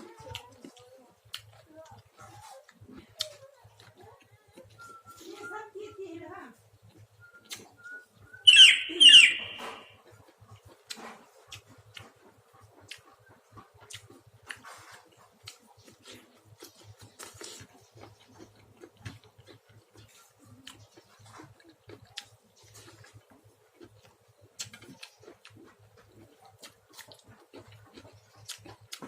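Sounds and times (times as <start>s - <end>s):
person chewing and smacking: 0.0s - 5.3s, 6.8s - 8.3s, 10.0s - 29.0s.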